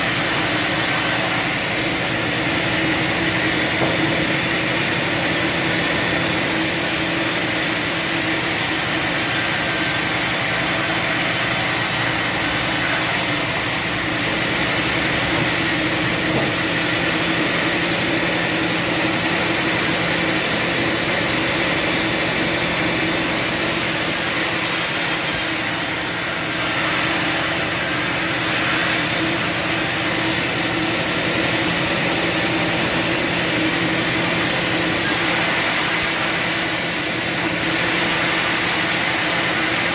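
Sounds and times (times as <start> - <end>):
bandsaw sawing through wood: 0.0 - 39.9
sawmill engine hum: 0.0 - 39.9.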